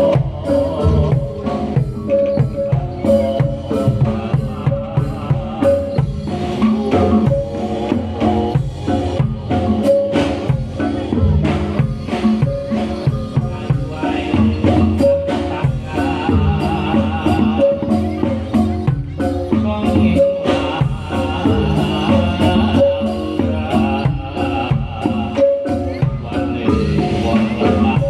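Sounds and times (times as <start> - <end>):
drums beating quick rhythm: 0.0 - 28.0
struck pitched percussion melody: 0.0 - 28.0.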